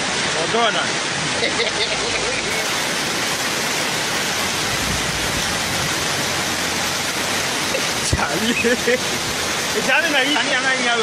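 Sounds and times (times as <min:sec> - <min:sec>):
floodwater rushing: 0:00.0 - 0:11.0
heavy rain: 0:00.0 - 0:11.0.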